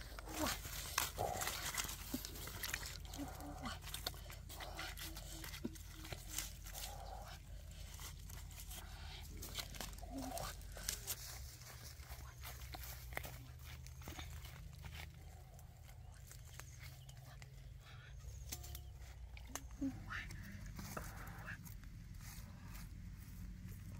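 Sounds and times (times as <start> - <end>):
leaves rustling: 0.0 - 23.9.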